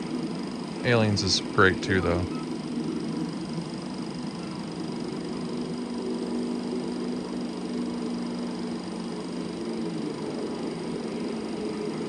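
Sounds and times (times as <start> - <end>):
film projector humming: 0.0 - 12.0
low sustained soundtrack tones: 0.0 - 12.0.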